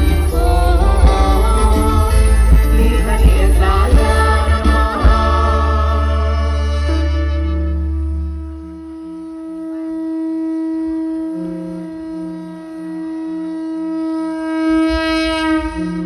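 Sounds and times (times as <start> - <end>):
low pulsing note: 0.0 - 16.0
reedy wind instrument: 0.0 - 16.0.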